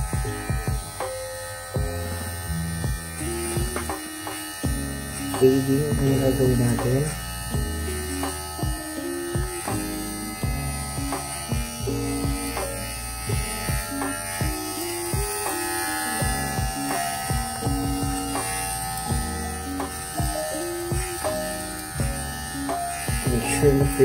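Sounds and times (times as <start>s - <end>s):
background music with a beat: 0.0s - 24.0s
electric hair clipper buzzing: 0.0s - 24.0s.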